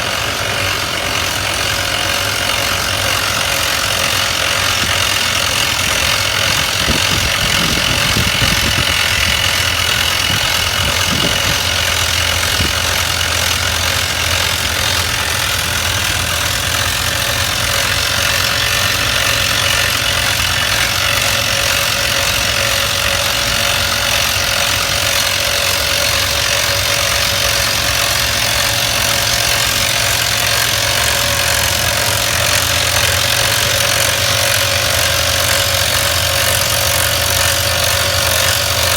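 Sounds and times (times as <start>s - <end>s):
rock drilling machine running: 0.0s - 38.9s.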